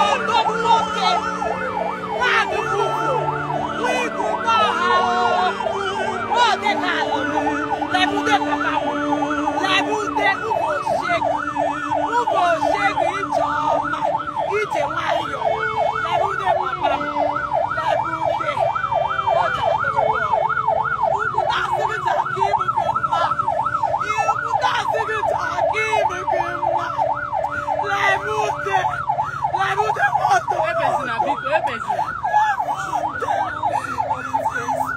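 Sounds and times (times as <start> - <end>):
electronic siren yelping: 0.0 - 34.9.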